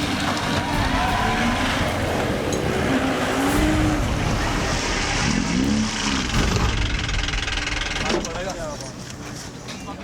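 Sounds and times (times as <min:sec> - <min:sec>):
off-road vehicle engine revving: 0:00.0 - 0:08.4.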